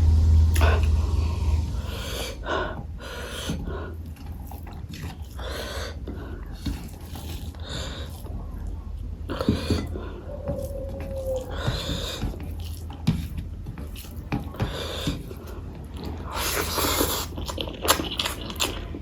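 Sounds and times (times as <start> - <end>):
wet chewing: 1.8 - 19.0.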